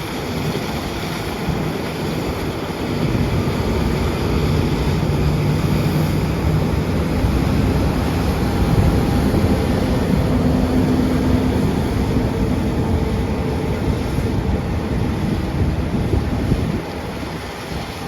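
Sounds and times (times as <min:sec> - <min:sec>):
harvest machinery low rumble: 0:01.1 - 0:18.0.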